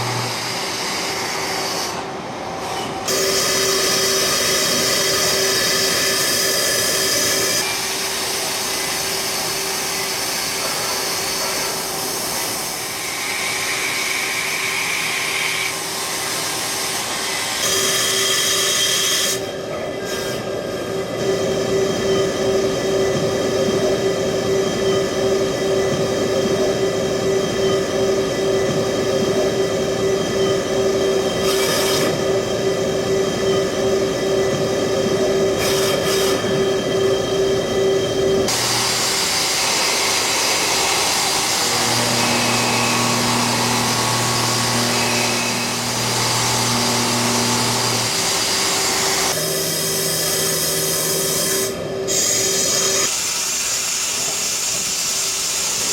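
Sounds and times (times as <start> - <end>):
lathe machining noise: 0.0 - 55.9.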